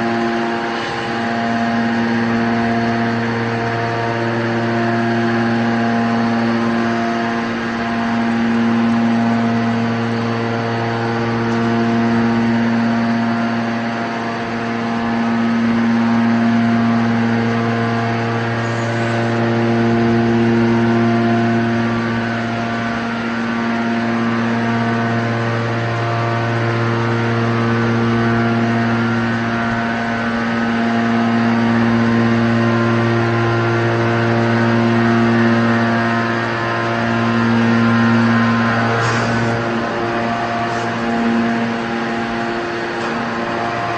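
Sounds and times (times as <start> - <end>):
hydraulic power unit droning hum: 0.0 - 43.9.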